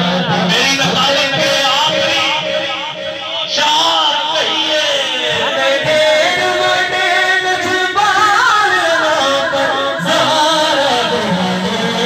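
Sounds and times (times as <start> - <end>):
man chanting through loudspeaker: 0.0 - 12.0.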